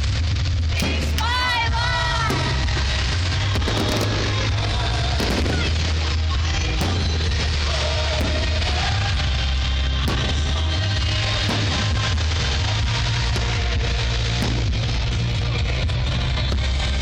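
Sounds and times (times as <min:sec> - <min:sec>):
fireworks cracking: 0:00.0 - 0:17.0
rock music over speakers: 0:00.0 - 0:17.0.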